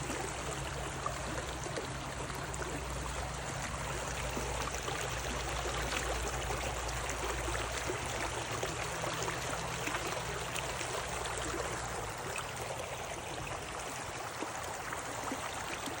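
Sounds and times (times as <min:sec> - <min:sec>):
stream babbling: 0:00.0 - 0:16.0.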